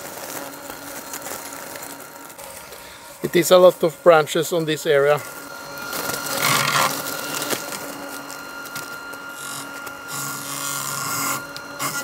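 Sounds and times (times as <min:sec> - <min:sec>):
mower blades cutting grass: 0:00.0 - 0:12.0
robotic mower motor whine: 0:00.0 - 0:12.0.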